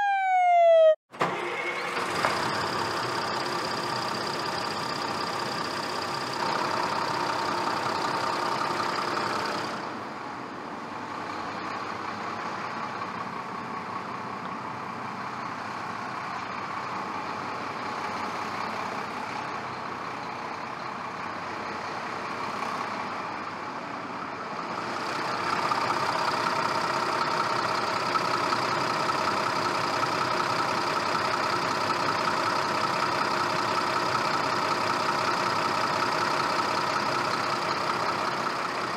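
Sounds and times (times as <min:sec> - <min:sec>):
vehicle engine running: 0:01.9 - 0:38.9.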